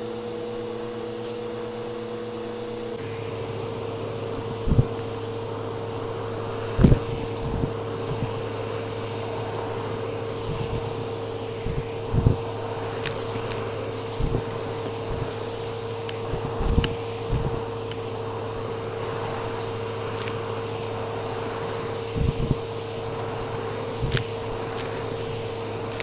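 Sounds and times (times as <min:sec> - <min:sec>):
vacuum cleaner running: 0:00.0 - 0:26.0
debris crunching up the hose: 0:04.1 - 0:26.0.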